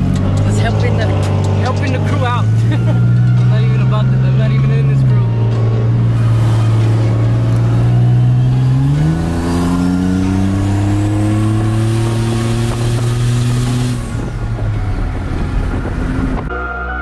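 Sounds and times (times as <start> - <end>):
pickup truck engine accelerating: 0.0 - 16.5.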